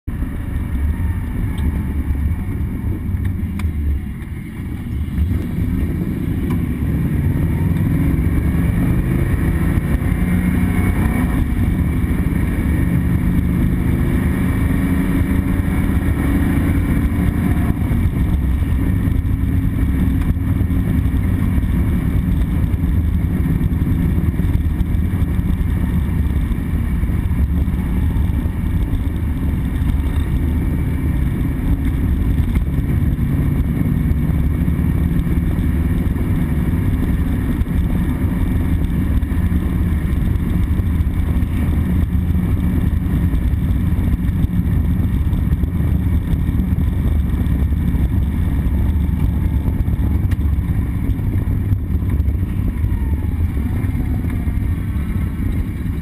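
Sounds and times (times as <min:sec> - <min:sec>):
car engine under throttle: 0:00.0 - 0:56.0.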